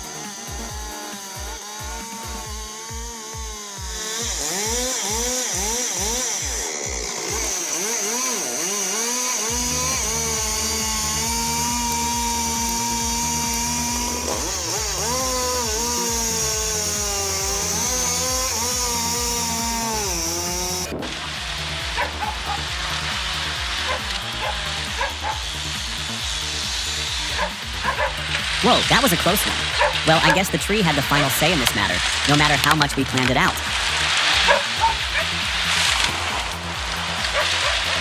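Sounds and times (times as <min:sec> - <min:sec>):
chainsaw cutting through log: 0:00.0 - 0:38.0
chainsaw revving: 0:00.0 - 0:38.0.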